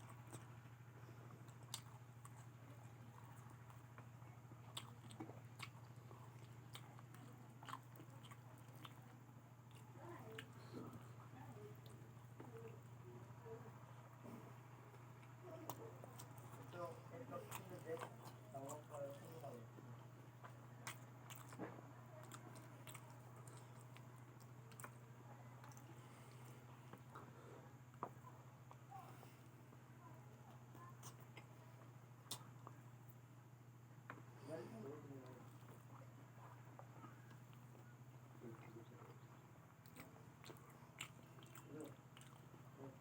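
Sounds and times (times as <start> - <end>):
person chewing crunchy food: 0.0 - 13.0, 14.0 - 33.2, 35.2 - 43.0
low electrical hum: 0.0 - 43.0.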